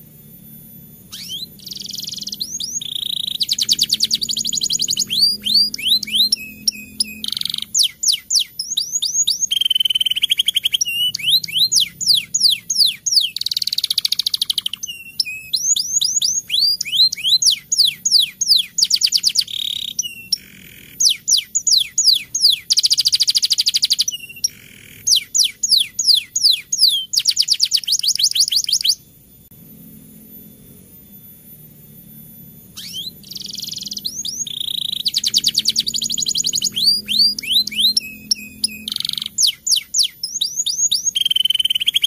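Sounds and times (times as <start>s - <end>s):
canary singing: 0.0s - 42.0s.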